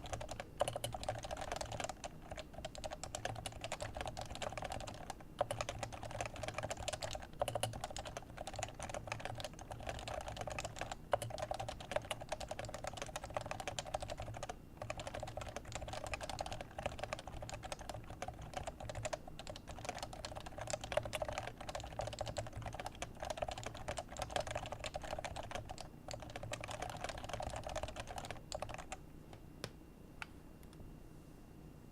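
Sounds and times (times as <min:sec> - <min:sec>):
keyboard typing: 0:00.0 - 0:29.0.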